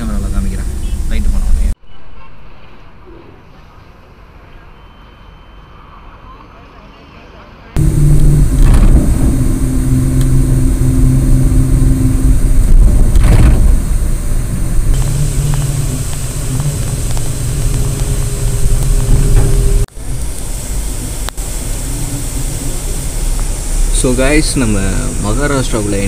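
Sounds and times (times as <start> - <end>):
bus engine and road noise: 0.0 - 4.6, 5.8 - 26.0.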